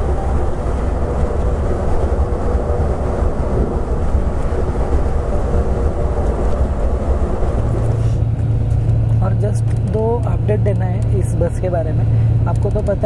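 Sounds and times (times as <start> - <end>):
bus engine and road rumble: 0.0 - 13.0
steady low hum: 0.0 - 13.0.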